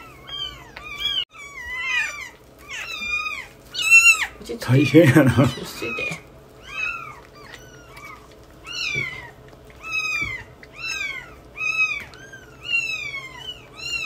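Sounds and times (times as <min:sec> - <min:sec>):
kittens mewing: 0:00.0 - 0:14.0.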